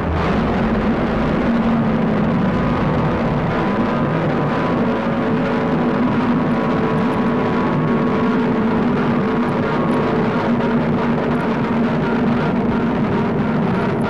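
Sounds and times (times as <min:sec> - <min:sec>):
psychedelic drone music: 0:00.0 - 0:14.0
thick wash of noise: 0:00.0 - 0:14.0.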